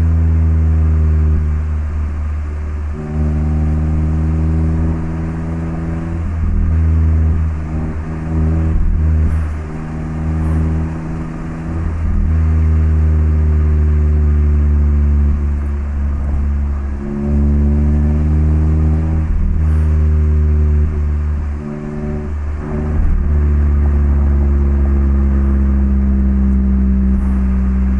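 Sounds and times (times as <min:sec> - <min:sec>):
car exhaust drone cruising: 0:00.0 - 0:27.9.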